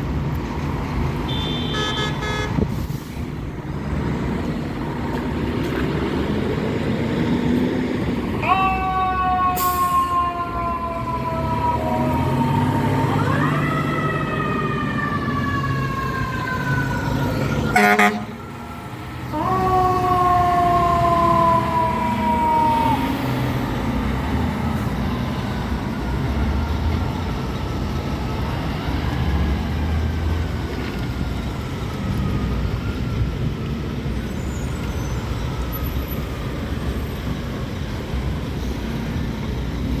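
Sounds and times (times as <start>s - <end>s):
fire truck sirens: 0.0s - 40.0s
truck engines rumbling: 0.0s - 40.0s.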